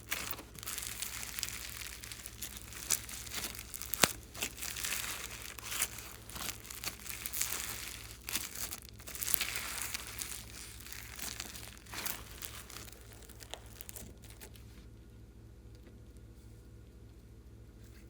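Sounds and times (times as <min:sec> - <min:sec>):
slime crinkling and crackling: 0:00.0 - 0:14.7.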